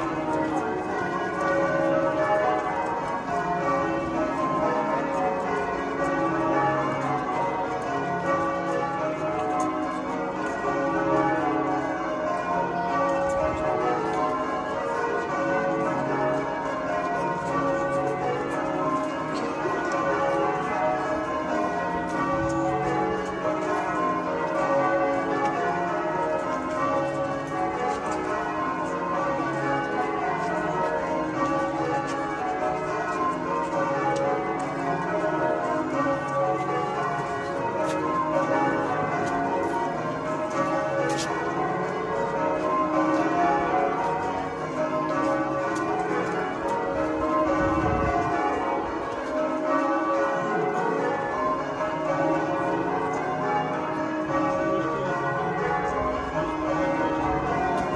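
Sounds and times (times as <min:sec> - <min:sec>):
church bells pealing: 0:00.0 - 0:57.9.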